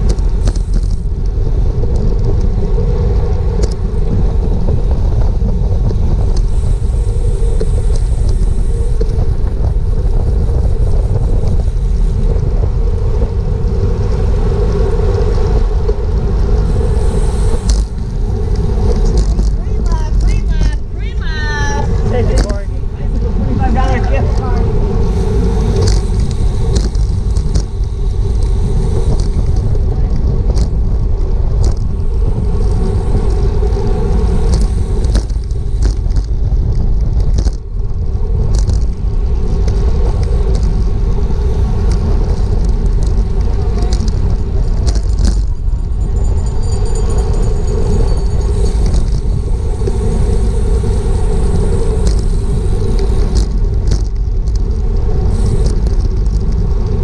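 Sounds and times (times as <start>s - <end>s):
bike tyres rumbling on pavement: 0.0s - 57.0s
wind buffeting microphone: 0.0s - 57.0s.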